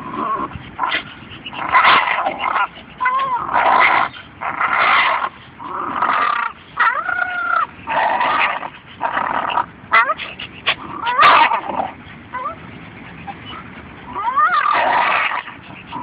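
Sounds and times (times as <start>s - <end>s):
dog yelping: 0.0s - 16.0s
dogs growling: 0.0s - 16.0s.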